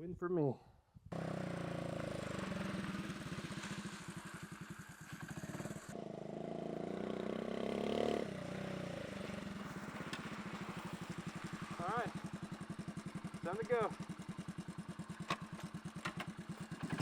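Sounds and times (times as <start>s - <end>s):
motorcycle engine idling and revving: 1.0s - 17.0s.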